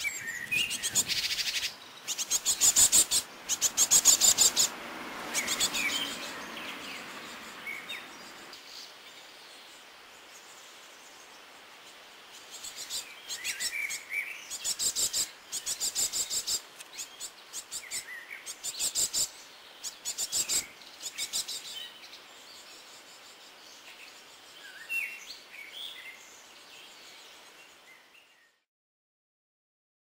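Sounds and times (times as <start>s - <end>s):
songbirds chirping: 0.0s - 28.6s.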